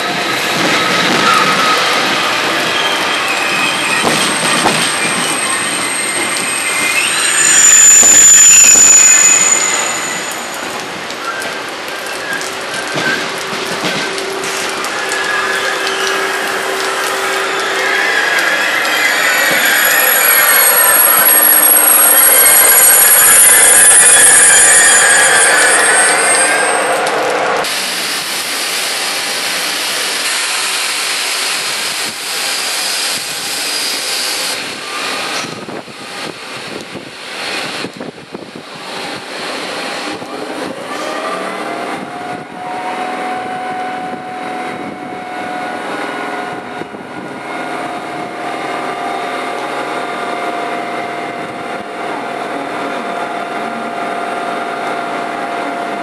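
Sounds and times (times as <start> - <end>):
train hiss and hum: 0.0 - 56.0
train wheel squeal: 0.0 - 56.0
train motor whine: 0.1 - 11.5, 12.3 - 55.9.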